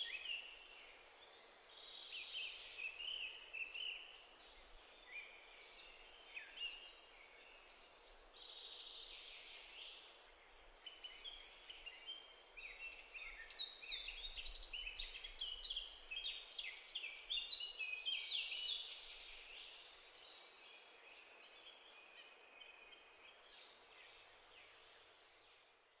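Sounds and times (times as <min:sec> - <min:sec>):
birds chirping and twittering: 0:00.0 - 0:25.8.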